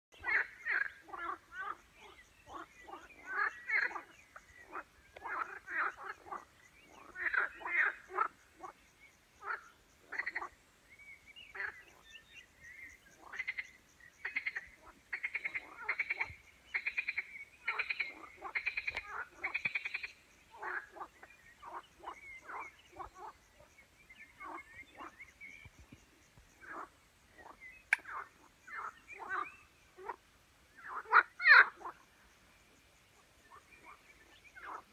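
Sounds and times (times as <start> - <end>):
frogs croaking: 0.2 - 34.9.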